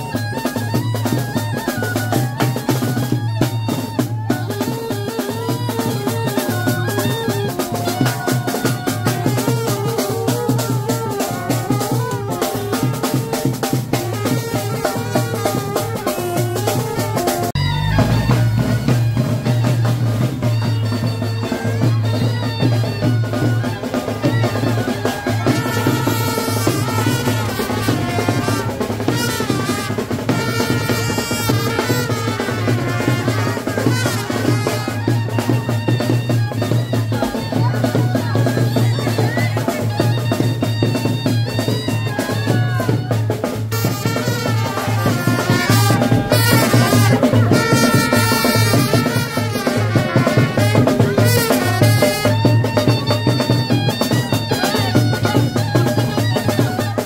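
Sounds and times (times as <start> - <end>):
festive music with heavy drum beat: 0.0 - 57.0.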